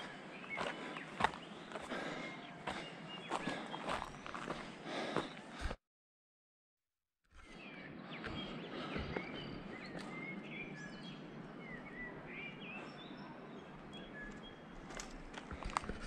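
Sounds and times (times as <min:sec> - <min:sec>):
small birds chirping: 0:00.0 - 0:05.8, 0:07.4 - 0:16.0.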